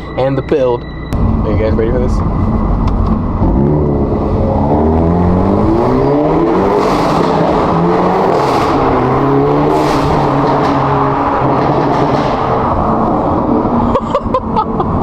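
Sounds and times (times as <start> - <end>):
car engine accelerating: 0.8 - 15.0.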